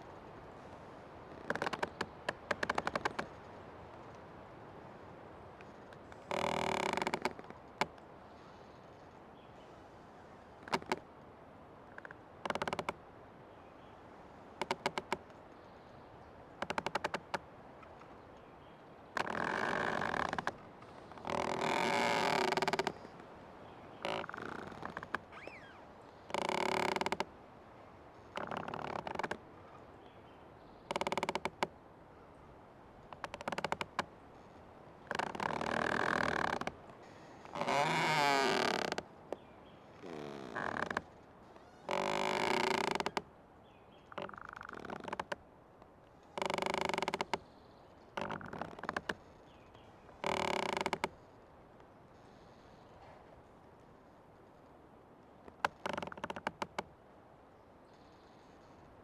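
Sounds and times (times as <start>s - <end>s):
old tree creaking: 0.0s - 4.2s, 5.5s - 9.2s, 10.5s - 11.1s, 11.8s - 13.0s, 14.4s - 18.4s, 19.0s - 29.9s, 30.7s - 32.3s, 33.0s - 43.3s, 44.0s - 45.4s, 46.1s - 51.5s, 52.1s - 53.6s, 54.4s - 57.0s, 57.9s - 59.0s
steady background hiss: 0.0s - 59.0s.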